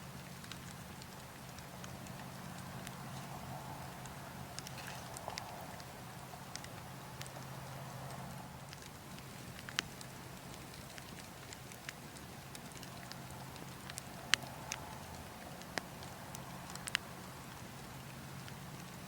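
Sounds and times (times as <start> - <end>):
wood logs crackling and popping: 0.0 - 19.0.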